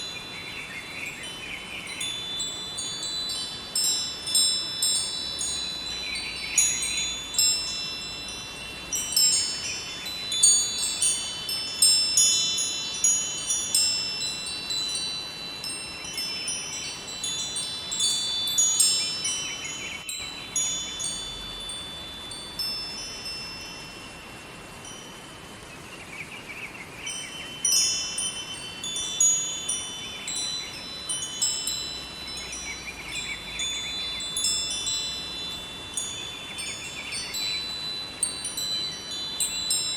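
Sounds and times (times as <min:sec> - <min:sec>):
metal wind chimes ringing: 0:00.0 - 0:25.6, 0:26.9 - 0:39.9
river water flowing: 0:00.0 - 0:39.9.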